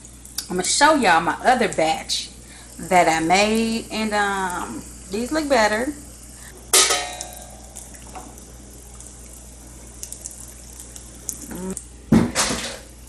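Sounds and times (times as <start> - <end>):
slices frying in oil: 0.0 - 12.0.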